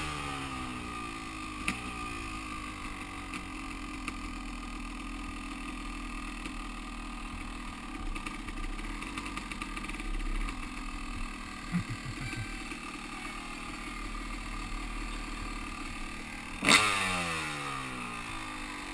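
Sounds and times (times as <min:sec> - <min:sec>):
dirt bike engine idling: 0:00.0 - 0:18.9.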